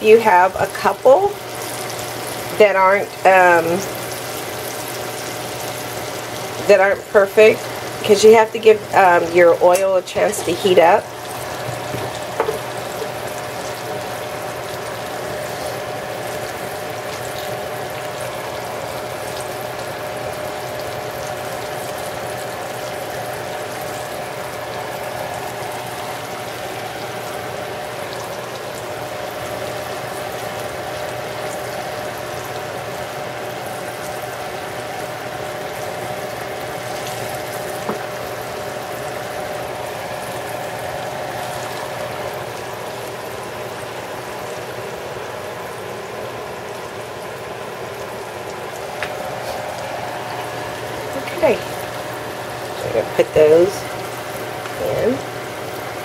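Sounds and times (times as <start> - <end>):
frying oil sizzling: 0.0 - 56.0.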